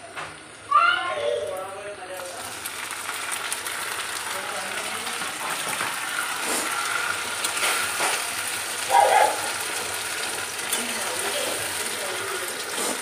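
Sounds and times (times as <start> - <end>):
vegetables sizzling in a pan: 0.3 - 13.0.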